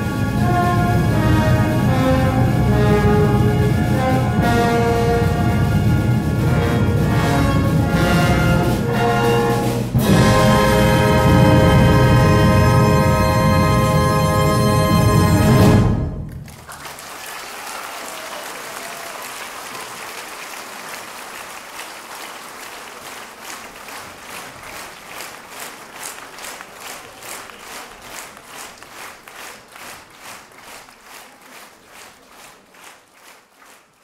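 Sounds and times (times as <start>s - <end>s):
audience clapping in rhythm: 0.0s - 15.6s, 16.2s - 34.0s.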